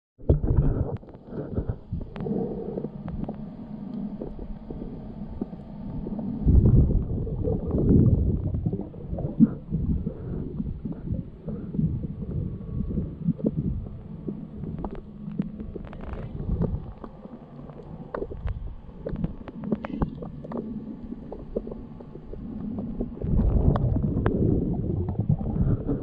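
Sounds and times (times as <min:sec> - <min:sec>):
underwater water rumbling: 0:00.2 - 0:26.0.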